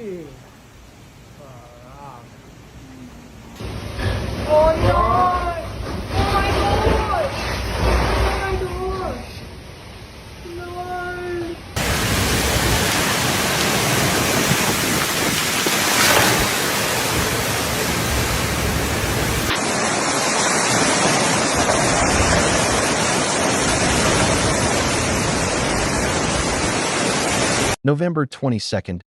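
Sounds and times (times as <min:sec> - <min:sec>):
heavy rain: 0:00.0 - 0:27.8
strong wind: 0:04.0 - 0:27.8.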